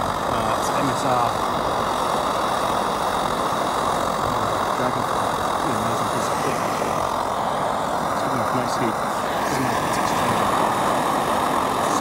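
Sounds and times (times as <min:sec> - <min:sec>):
camping stove burner roaring: 0:00.0 - 0:12.0.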